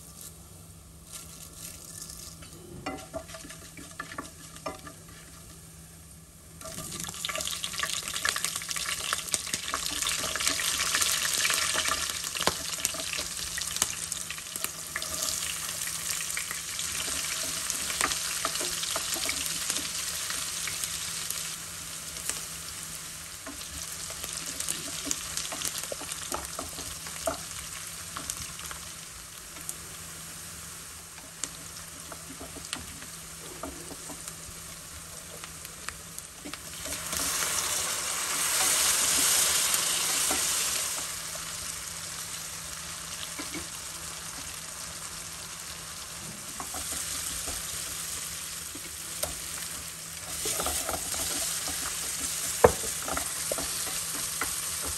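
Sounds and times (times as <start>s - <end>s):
hot oil sizzling: 0.0s - 54.9s.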